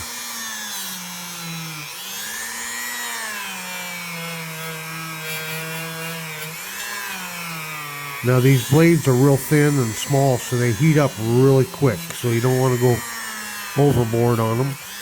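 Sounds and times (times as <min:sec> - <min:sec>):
rotary tool whining on metal: 0:00.0 - 0:15.0.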